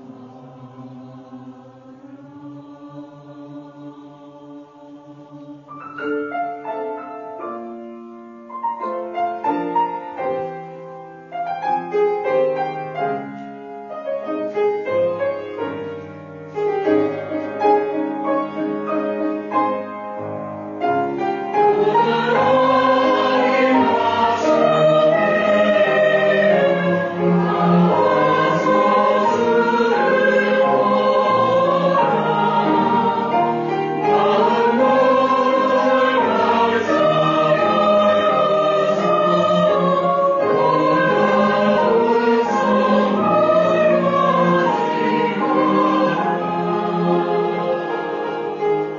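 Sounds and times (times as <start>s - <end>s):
piano accompaniment: 0.0s - 2.4s, 5.2s - 48.9s
choir singing a hymn: 0.0s - 7.8s, 13.9s - 19.9s, 20.6s - 48.9s.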